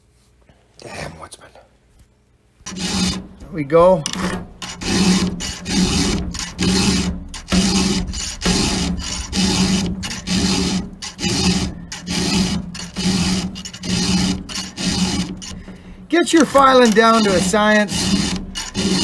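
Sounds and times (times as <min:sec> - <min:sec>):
file rasping on chainsaw chain: 0:02.7 - 0:03.4, 0:04.2 - 0:19.0.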